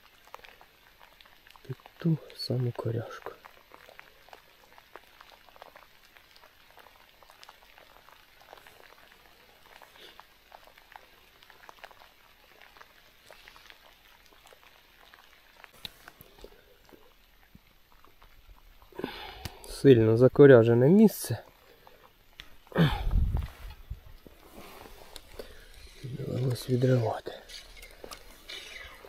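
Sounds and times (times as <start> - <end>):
light rain falling: 0.0 - 29.0.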